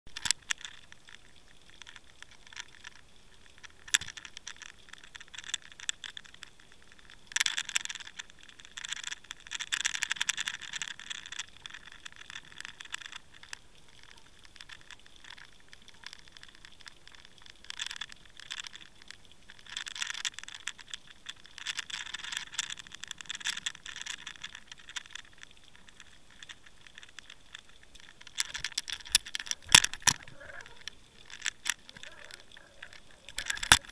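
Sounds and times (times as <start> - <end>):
underwater crackling and clicking: 0.1 - 33.9.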